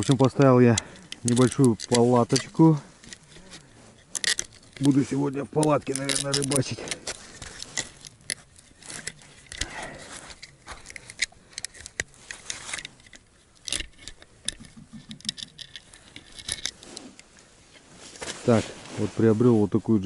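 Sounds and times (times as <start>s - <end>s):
small gear clicking and rattling: 0.0s - 18.3s.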